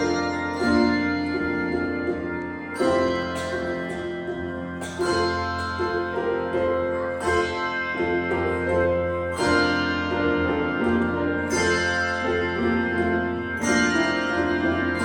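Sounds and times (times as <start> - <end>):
handbell choir ringing: 0.0 - 15.0.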